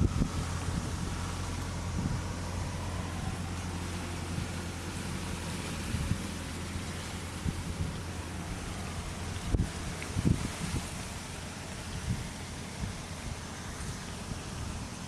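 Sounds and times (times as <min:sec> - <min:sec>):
constant low rumble: 0:00.0 - 0:15.0
wind noise on microphone: 0:00.0 - 0:15.0.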